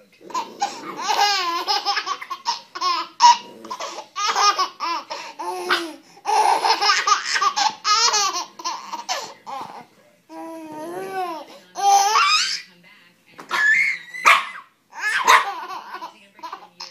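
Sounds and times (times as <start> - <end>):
baby laughing: 0.3 - 12.6, 14.9 - 16.9.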